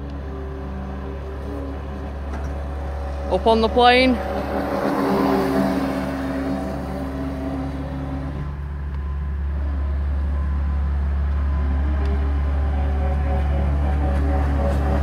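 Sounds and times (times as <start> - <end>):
electric motor whining: 0.0 - 15.0
low rumble: 0.0 - 15.0.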